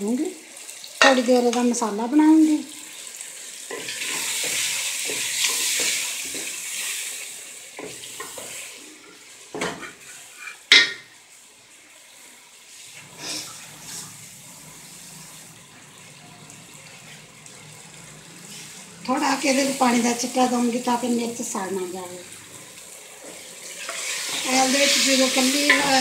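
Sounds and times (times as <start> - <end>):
masala sizzling in a pot: 0.0 - 26.0.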